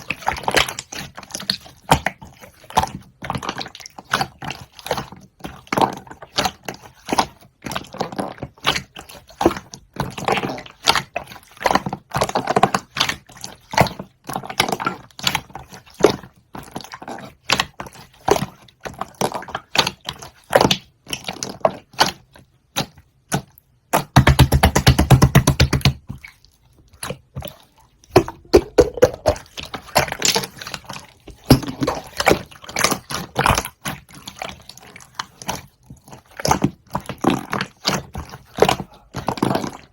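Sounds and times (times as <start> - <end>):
wet chewing and smacking: 0.0 - 24.2, 24.8 - 39.9.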